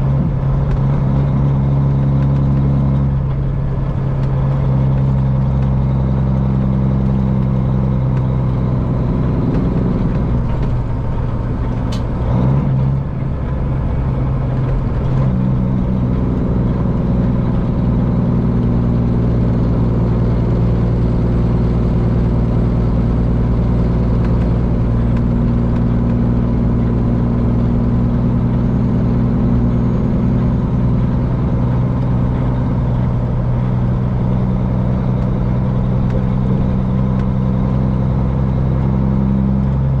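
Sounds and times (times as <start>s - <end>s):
diesel truck engine running: 0.0s - 40.0s.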